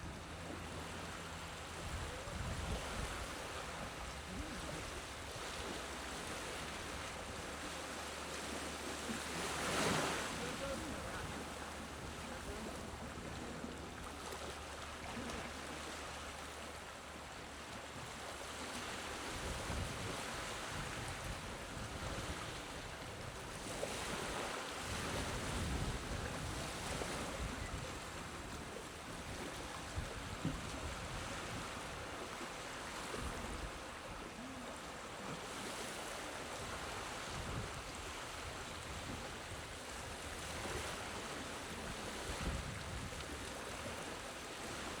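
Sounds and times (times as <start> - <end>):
gentle waves washing onto beach: 0.0 - 45.0.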